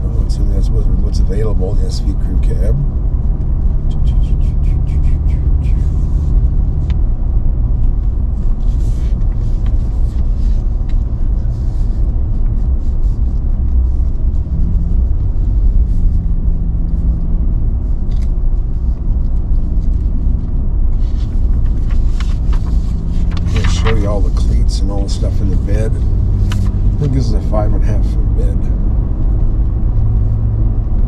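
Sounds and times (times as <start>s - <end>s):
faint steady drone: 0.0s - 30.8s
tyre and wind road noise: 0.0s - 31.0s.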